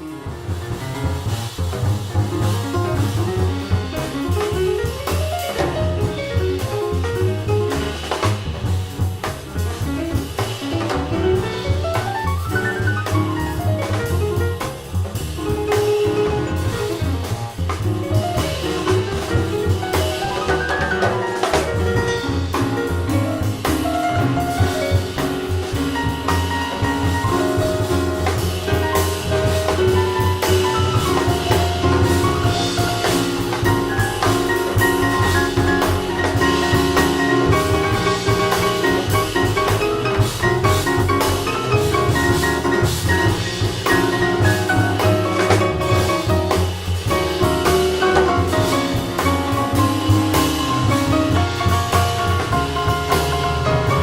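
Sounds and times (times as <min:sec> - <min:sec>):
bass line: 0:00.0 - 0:54.0
drum kit with cymbals: 0:00.0 - 0:54.0.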